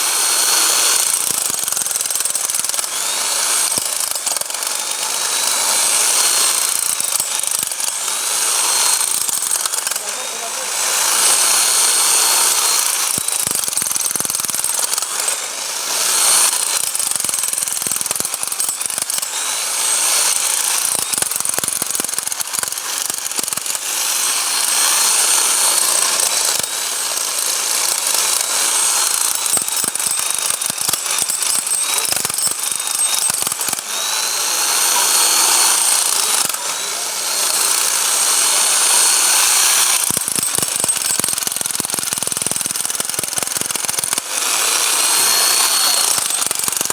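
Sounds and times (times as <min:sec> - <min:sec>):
hammer drill rattling: 0:00.0 - 0:46.9.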